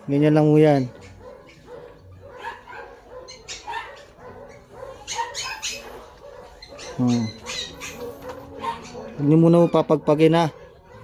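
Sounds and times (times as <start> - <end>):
puppy squeaking and crying: 0.6 - 11.0.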